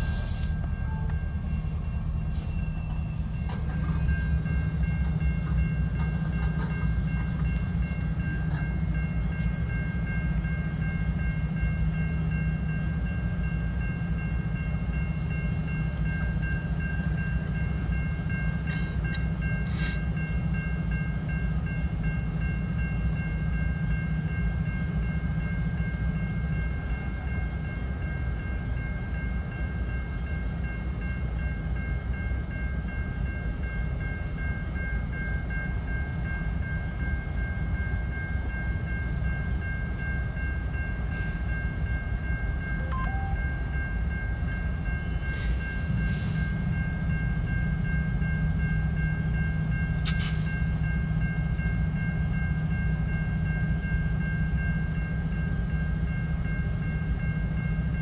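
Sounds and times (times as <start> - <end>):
crossing signal bell ringing: 0.0 - 58.0
freight train cars rumbling: 0.0 - 58.0.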